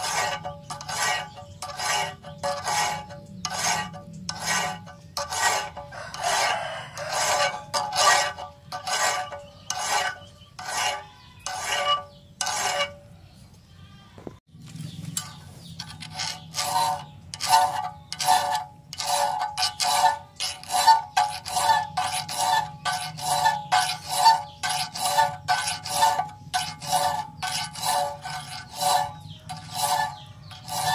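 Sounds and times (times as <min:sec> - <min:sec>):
file rasping on steel: 0:00.0 - 0:13.1, 0:15.2 - 0:30.9
ringing metallic squeal: 0:00.0 - 0:13.2, 0:15.2 - 0:30.9.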